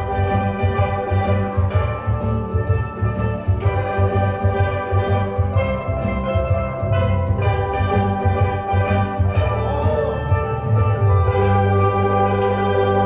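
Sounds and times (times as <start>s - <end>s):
pulsing low beat: 0.0s - 13.0s
steel pan band playing: 0.0s - 13.0s.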